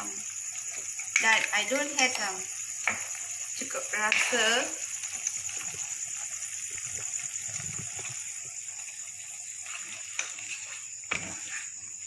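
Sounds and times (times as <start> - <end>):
thick sauce bubbling in a wok: 0.0 - 12.0
wooden spatula stirring: 0.6 - 12.0.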